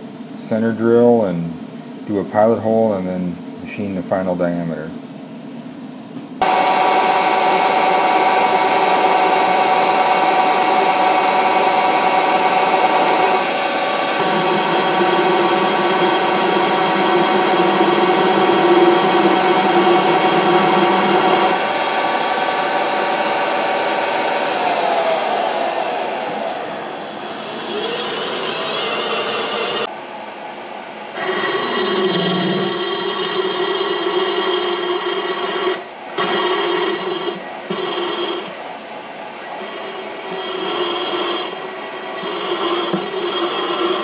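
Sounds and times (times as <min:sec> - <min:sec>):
milling machine spindle whine: 0:06.4 - 0:44.0.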